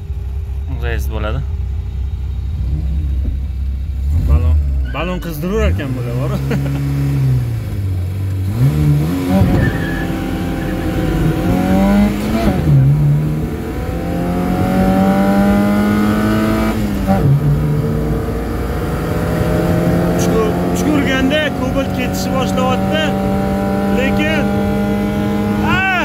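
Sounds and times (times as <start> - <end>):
car engine accelerating hard: 2.3 - 26.0.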